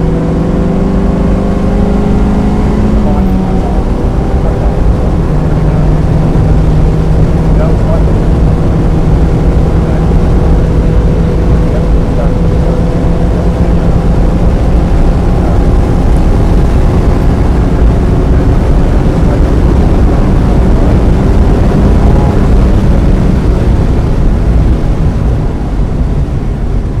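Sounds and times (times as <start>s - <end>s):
car engine running hard: 0.0s - 27.0s
road noise: 0.0s - 27.0s.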